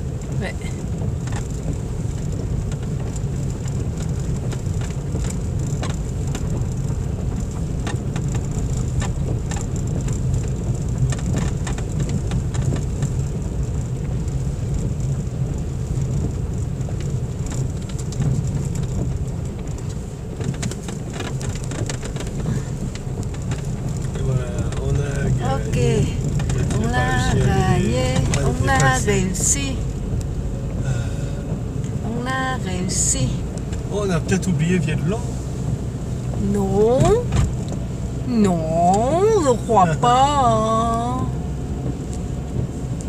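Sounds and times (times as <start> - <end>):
engine and tyres rumbling: 0.0 - 43.0
gravel ticking: 0.0 - 43.0.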